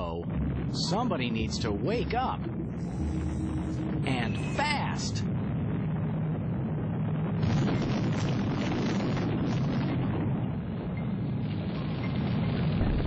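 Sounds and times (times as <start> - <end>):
continuous low rumble: 0.0 - 13.0
crackling noise: 0.0 - 13.0.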